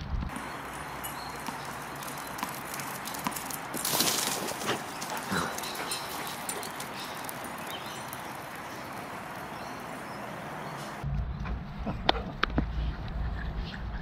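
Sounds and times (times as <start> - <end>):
outdoor background hiss: 0.1 - 11.8.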